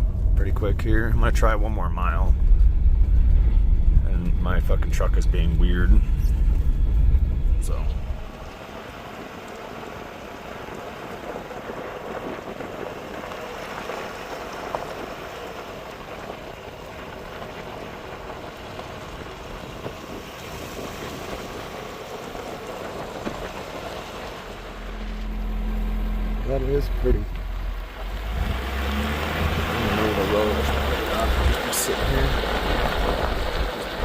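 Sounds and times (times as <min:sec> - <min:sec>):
tyre and road noise: 0:00.0 - 0:34.0.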